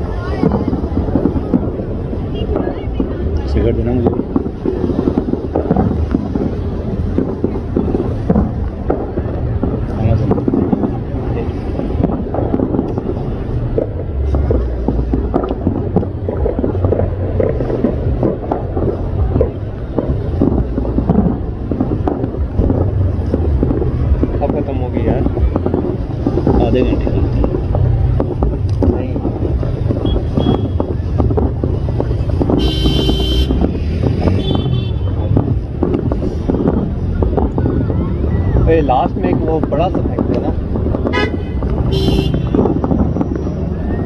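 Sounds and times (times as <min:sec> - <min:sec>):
firework pops and crackles: 0:00.0 - 0:44.0
low rumble of firework booms: 0:00.0 - 0:44.0.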